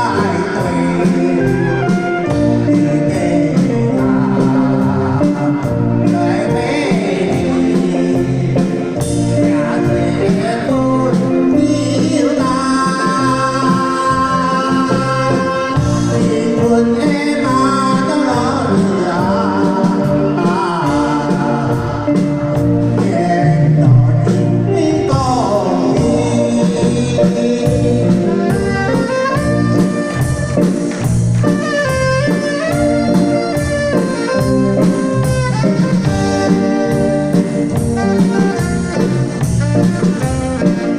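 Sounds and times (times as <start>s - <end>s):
ballad with steady beat: 0.0s - 40.9s
person singing: 0.0s - 40.9s.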